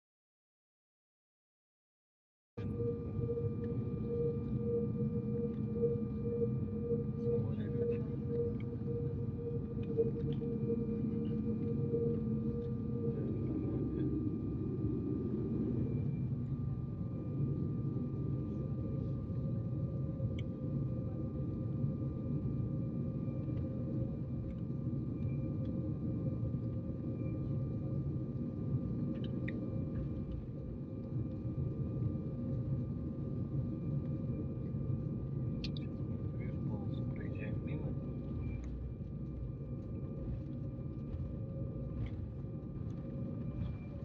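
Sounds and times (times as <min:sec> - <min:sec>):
low cabin rumble: 0:02.6 - 0:44.0
thin steady whine: 0:02.6 - 0:44.0.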